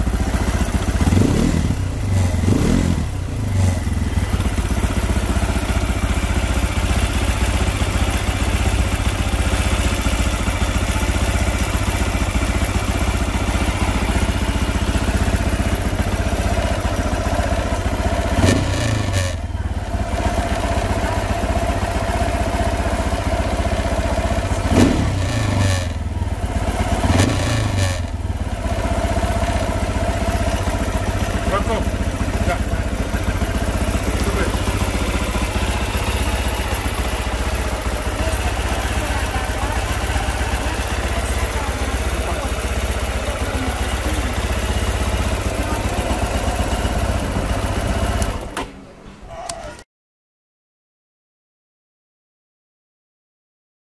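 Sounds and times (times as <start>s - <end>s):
motorcycle engine idling and revving: 0.0s - 48.7s.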